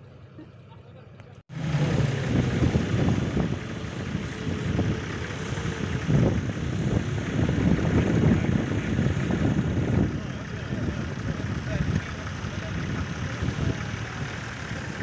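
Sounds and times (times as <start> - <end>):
car engine working under load: 0.0 - 15.0.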